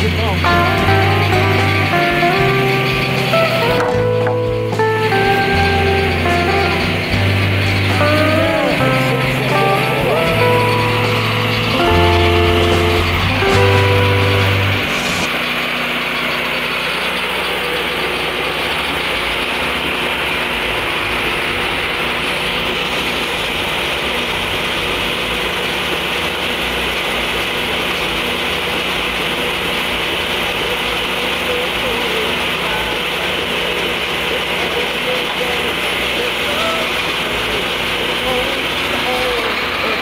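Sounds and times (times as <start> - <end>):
sawmill cutting log: 0.0 - 40.0.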